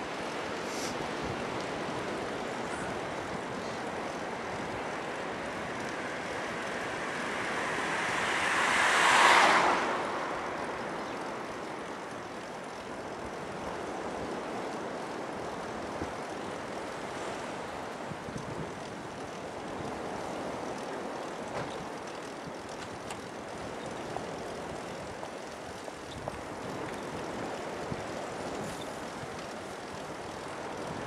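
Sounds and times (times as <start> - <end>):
bicycle rolling: 0.0 - 31.0
wind: 0.0 - 31.0.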